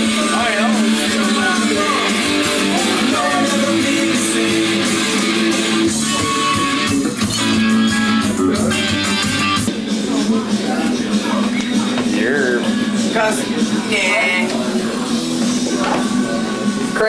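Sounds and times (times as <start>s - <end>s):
guitar-driven music: 0.0s - 17.0s.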